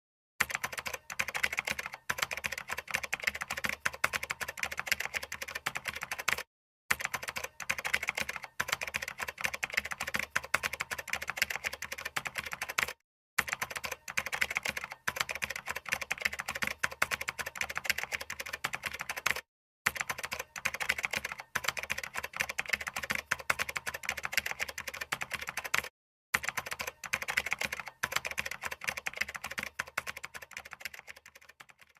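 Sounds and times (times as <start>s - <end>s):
fast typing on keyboard: 0.4s - 31.9s.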